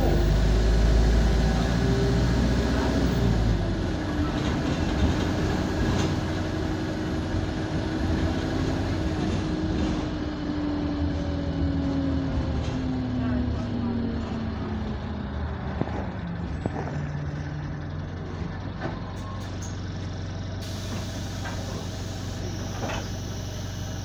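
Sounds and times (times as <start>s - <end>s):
bus body rattles: 0.0s - 24.0s
bus engine running: 0.0s - 24.0s.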